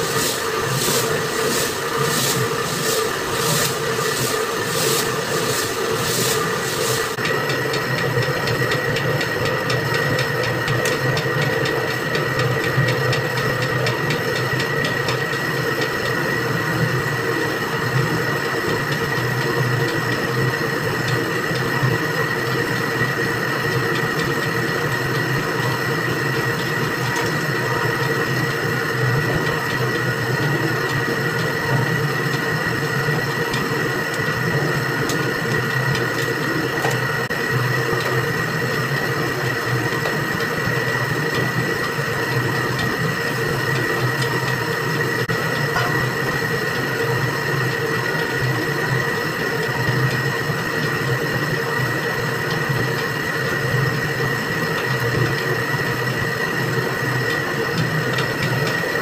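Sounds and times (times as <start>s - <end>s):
dough mixer motor running: 0.0s - 59.0s.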